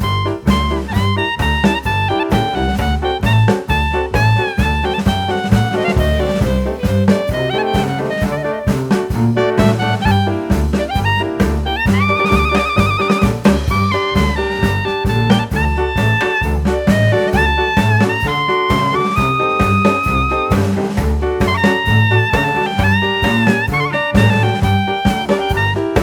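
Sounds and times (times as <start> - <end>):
horn note with vibrato: 0.0 - 26.0
jazz music with brass: 0.0 - 26.0.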